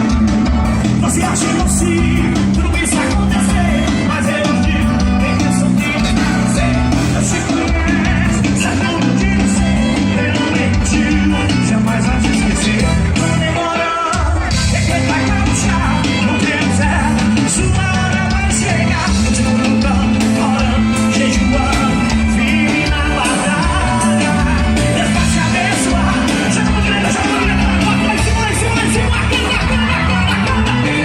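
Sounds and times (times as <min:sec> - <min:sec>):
gospel band playing: 0:00.0 - 0:31.0
lead singer singing: 0:00.0 - 0:31.0.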